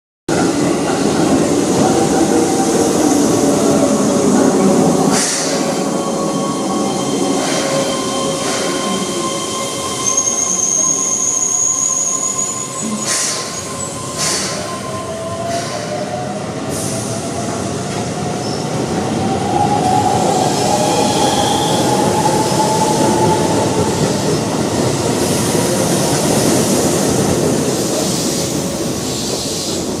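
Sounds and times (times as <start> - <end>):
rumble of passing train cars: 0.3 - 30.0.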